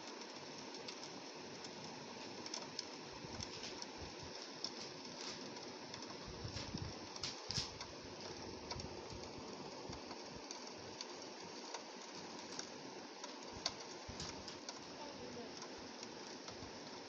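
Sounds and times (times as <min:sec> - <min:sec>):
rainfall hiss: 0:00.0 - 0:17.0.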